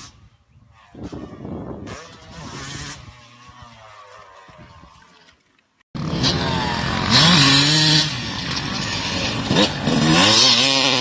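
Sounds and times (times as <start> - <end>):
dirt bike engine revving: 0.7 - 5.3, 6.0 - 11.0.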